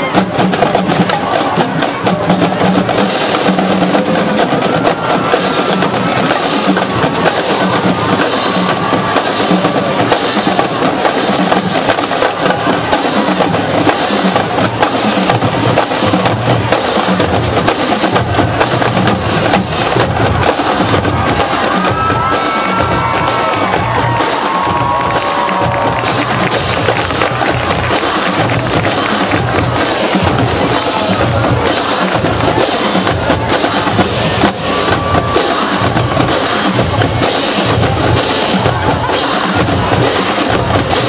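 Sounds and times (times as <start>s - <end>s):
drums keeping a beat: 0.0s - 41.0s
marching band playing: 0.0s - 41.0s.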